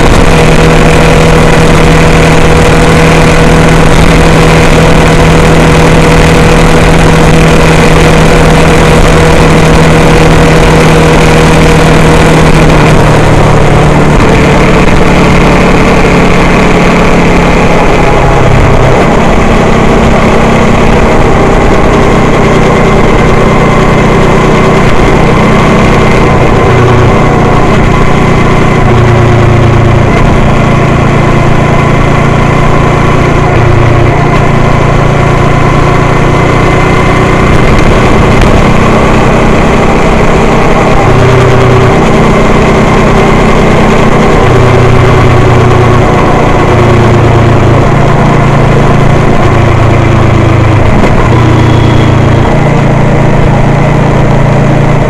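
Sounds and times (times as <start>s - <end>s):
car engine hum: 0.0s - 55.0s
road noise: 0.0s - 55.0s.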